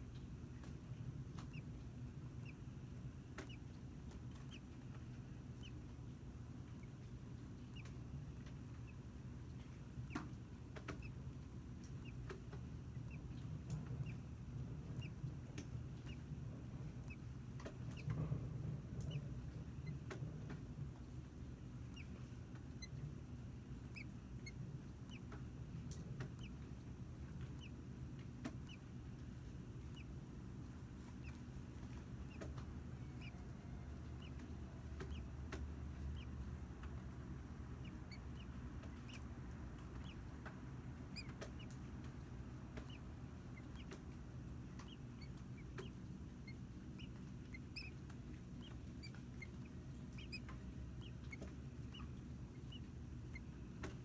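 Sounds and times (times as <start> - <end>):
steady low hum: 0.0 - 54.0
nestlings peeping: 0.1 - 54.0.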